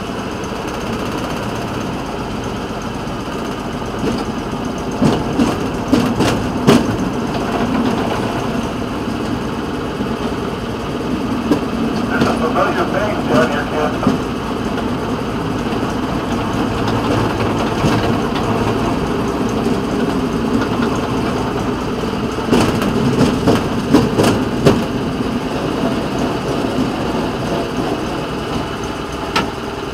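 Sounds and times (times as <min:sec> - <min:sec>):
small rail motor car engine running: 0:00.0 - 0:29.9.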